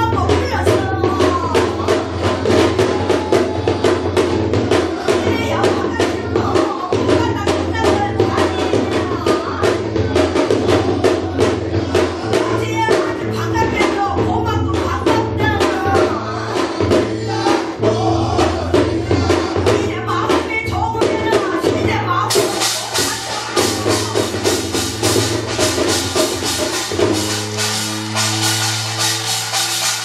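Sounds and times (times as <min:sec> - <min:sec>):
person singing: 0:00.0 - 0:26.8
fast drumming: 0:00.0 - 0:30.0.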